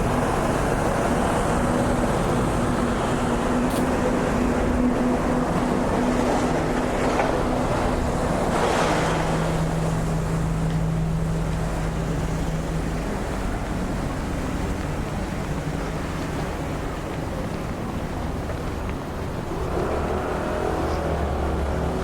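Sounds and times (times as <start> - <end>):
river water rushing: 0.0 - 22.0
road traffic hum: 0.0 - 22.0.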